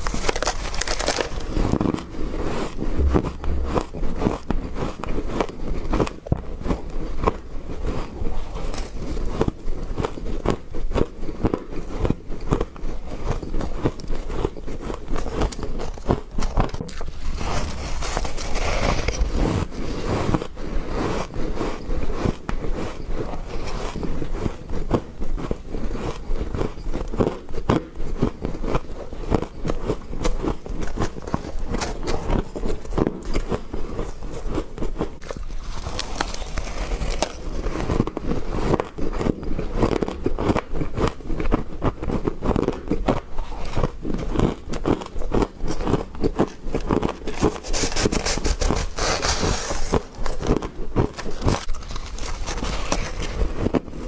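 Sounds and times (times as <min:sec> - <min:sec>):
chewing crunchy frost: 0:00.0 - 0:54.0.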